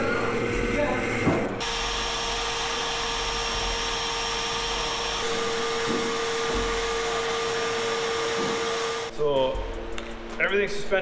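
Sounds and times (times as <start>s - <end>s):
steady machine hum: 0.0s - 10.3s.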